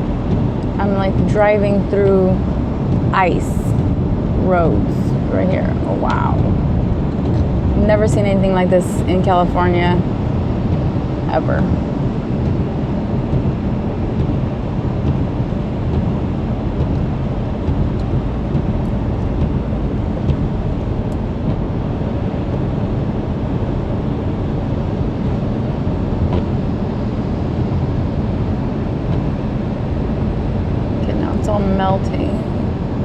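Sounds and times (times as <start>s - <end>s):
car driving rumble: 0.0s - 33.0s.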